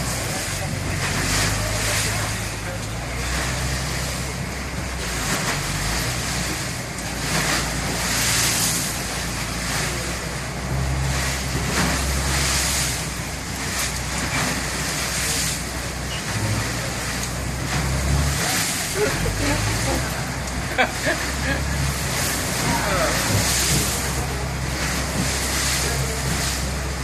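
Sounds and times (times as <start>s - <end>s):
low engine rumble: 0.0s - 27.0s
rough sea splashing: 0.0s - 27.0s.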